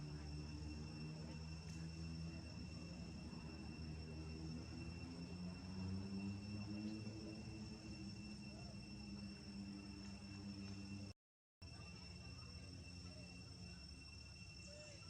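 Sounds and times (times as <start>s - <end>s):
crickets droning: 0.0s - 15.0s
faint low hum: 0.0s - 15.0s.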